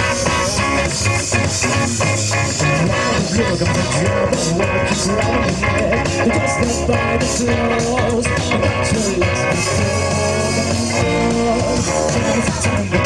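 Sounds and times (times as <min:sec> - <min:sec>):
guitar: 0:00.0 - 0:13.0
rock band playing live: 0:00.0 - 0:13.0.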